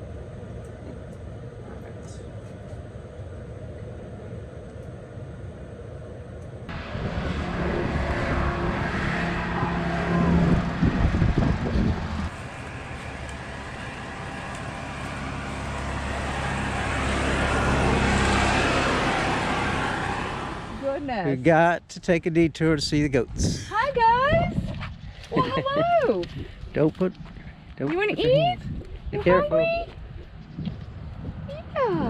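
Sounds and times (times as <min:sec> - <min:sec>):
vehicle driving with road noise: 0:00.0 - 0:26.2.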